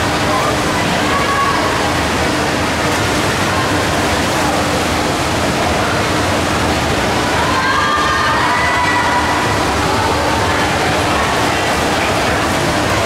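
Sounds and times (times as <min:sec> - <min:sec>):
crowd of spectators voices: 0:00.0 - 0:13.0.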